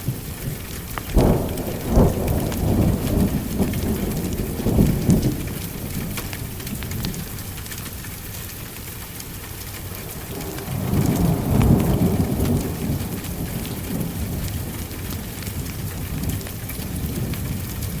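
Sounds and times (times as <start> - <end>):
thunder rumbling: 0.0 - 7.7, 9.8 - 18.0
heavy rain falling: 0.0 - 18.0.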